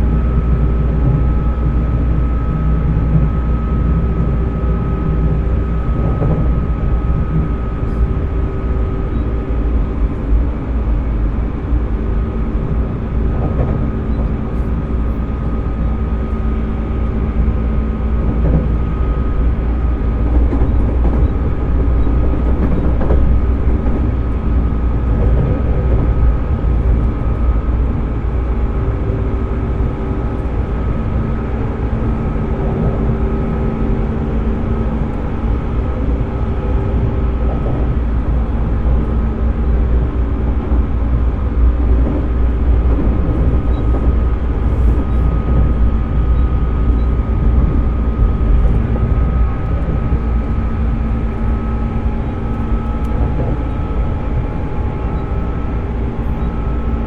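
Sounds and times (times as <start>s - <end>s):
electric train motor whine: 0.0s - 57.0s
wheels rumbling on rail: 0.0s - 57.0s.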